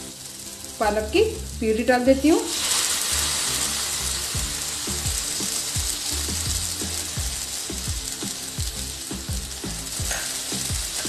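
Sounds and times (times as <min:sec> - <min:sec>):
background music with steady beat: 0:00.0 - 0:11.0
puree sizzling in a pan: 0:00.0 - 0:11.0.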